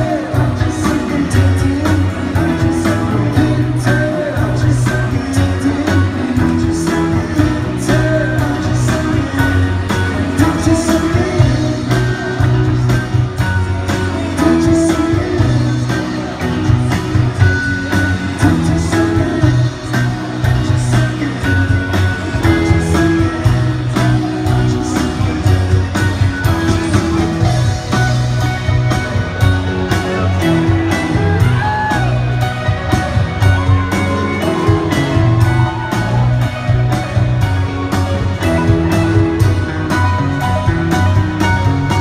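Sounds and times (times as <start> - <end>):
drum kit beat: 0.0 - 42.0
live rock band: 0.0 - 42.0.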